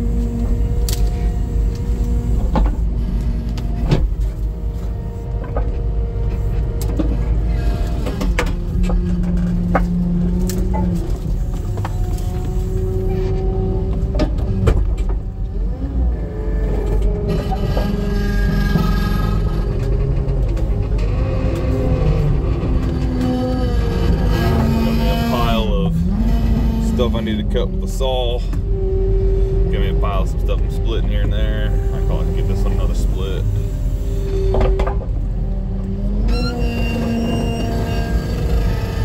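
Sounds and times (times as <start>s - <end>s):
engine running under load: 0.0s - 39.0s
hydraulic whine: 0.0s - 39.0s.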